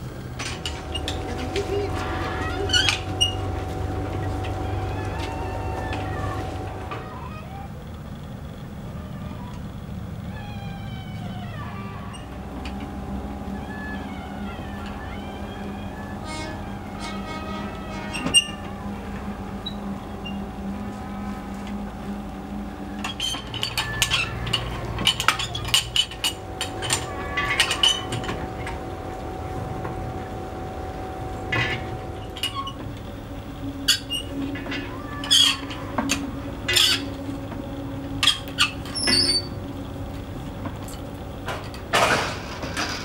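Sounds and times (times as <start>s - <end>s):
hand-cranked winch gears clanking: 0.0s - 43.0s.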